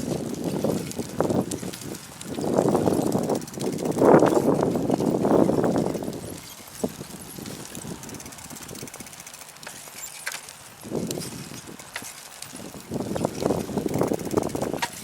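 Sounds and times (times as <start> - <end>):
wind buffeting microphone: 0.0 - 9.8, 10.5 - 15.0.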